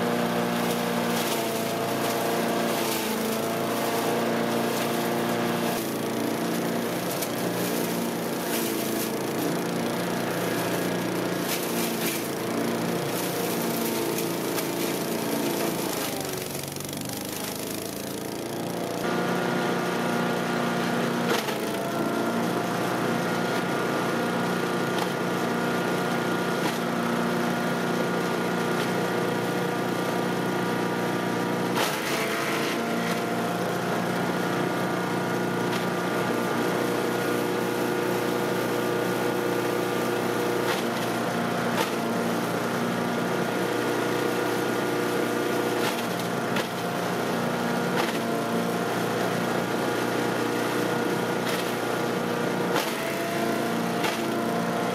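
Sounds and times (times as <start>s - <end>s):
chipper shredder engine running: 0.0s - 54.9s.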